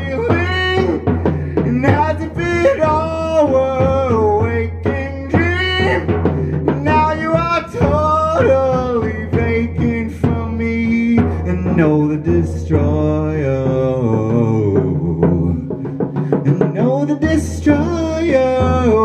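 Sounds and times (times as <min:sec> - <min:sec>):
person singing long notes: 0:00.0 - 0:15.8
drum kit: 0:00.0 - 0:19.0.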